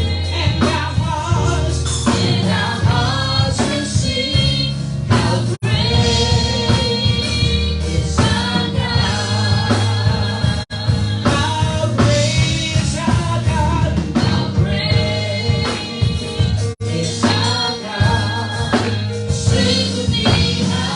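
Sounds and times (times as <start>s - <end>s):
band with steady bass line: 0.0s - 20.9s
voices singing gospel music: 0.0s - 20.9s.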